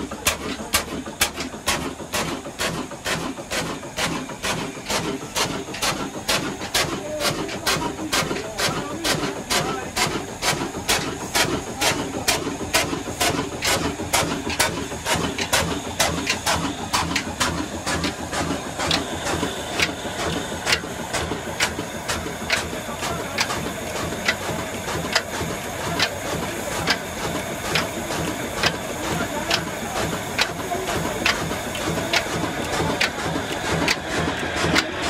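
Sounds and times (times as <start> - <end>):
single-cylinder diesel engine knocking: 0.0 - 35.0.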